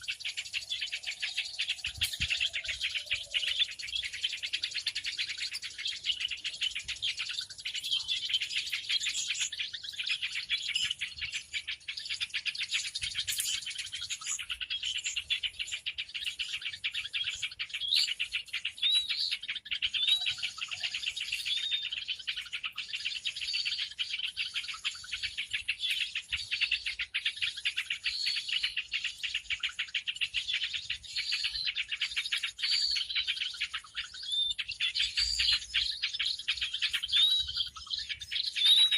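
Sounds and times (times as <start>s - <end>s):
small birds chattering and chirping: 0.0s - 38.9s
whistled bird notes: 0.0s - 38.9s.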